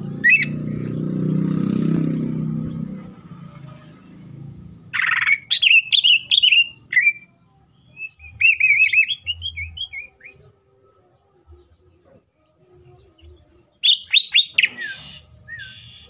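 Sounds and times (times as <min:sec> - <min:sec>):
bird singing with warbled trills: 0:00.0 - 0:03.2, 0:04.5 - 0:16.0.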